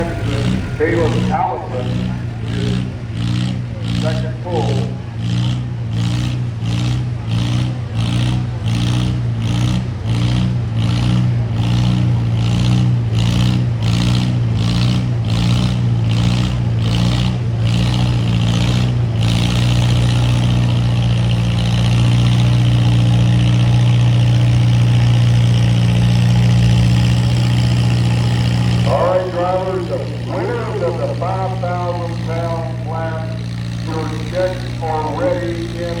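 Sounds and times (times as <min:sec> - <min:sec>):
tractor engine under load: 0:00.0 - 0:36.0.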